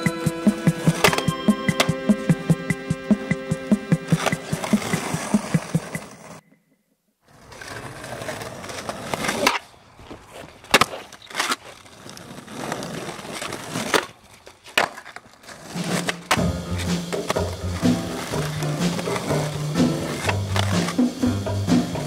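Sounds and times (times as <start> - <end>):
skateboard wheels rolling on asphalt: 0.0 - 2.0, 3.0 - 6.4, 7.2 - 22.0
skateboard clacking: 0.0 - 6.4, 7.3 - 22.0.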